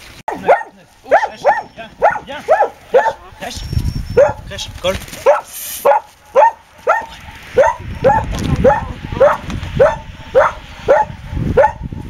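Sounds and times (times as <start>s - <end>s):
dog barking: 0.3s - 3.3s, 4.2s - 4.5s, 5.2s - 11.9s.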